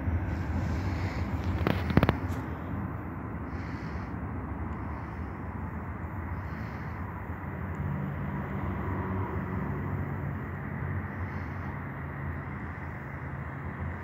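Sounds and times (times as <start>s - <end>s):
low engine hum: 0.0s - 14.0s
low rumble of distant vehicles: 0.0s - 14.0s.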